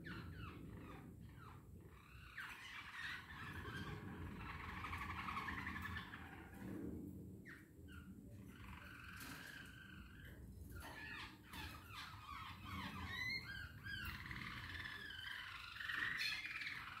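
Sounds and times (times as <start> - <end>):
cage birds chirping and warbling: 0.0 - 17.0.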